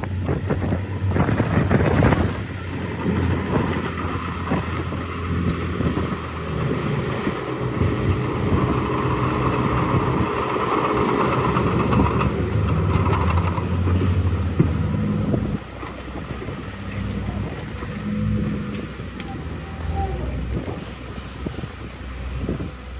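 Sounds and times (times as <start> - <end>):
heavy diesel machinery running: 0.0 - 22.9.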